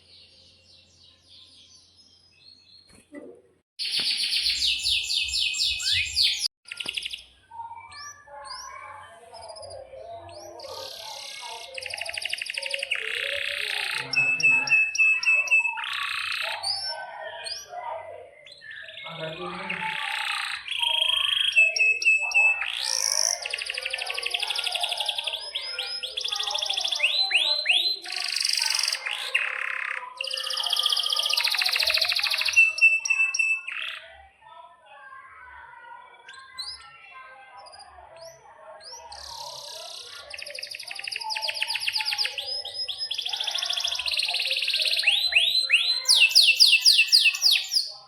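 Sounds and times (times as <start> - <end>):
canary singing trills: 3.8 - 34.5, 35.2 - 48.0.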